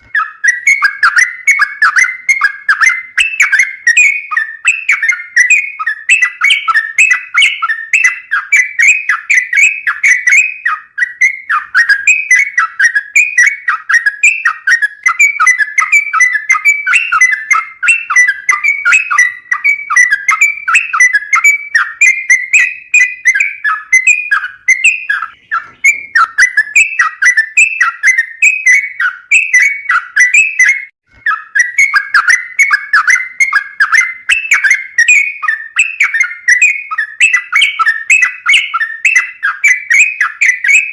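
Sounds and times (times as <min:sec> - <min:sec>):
bulbul singing whistled phrases: 0:00.0 - 0:40.9.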